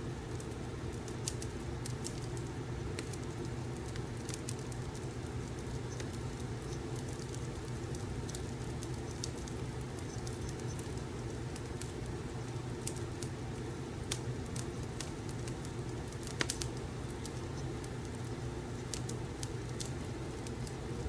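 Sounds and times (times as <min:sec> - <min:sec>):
burning logs rumbling: 0:00.0 - 0:21.0
fire crackles and pops: 0:00.0 - 0:21.0.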